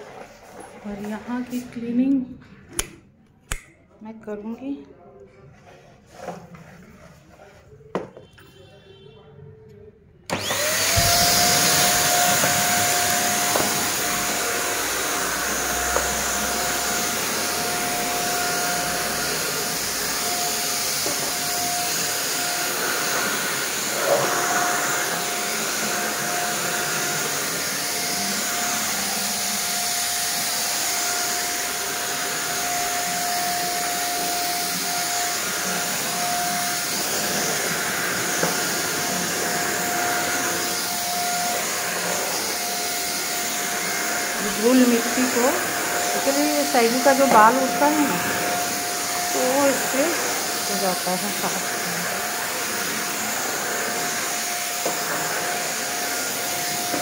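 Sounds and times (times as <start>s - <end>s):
vacuum cleaner whining: 0.0s - 3.0s, 10.3s - 57.0s.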